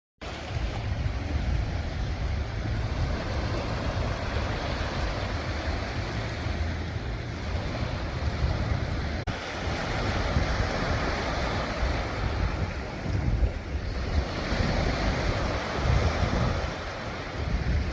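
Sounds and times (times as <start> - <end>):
sea waves washing on shore: 0.2 - 17.9
wind buffeting microphone: 0.2 - 17.9.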